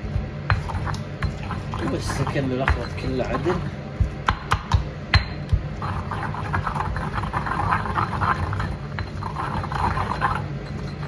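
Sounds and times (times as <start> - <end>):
wet stirring and scraping: 0.0 - 11.0.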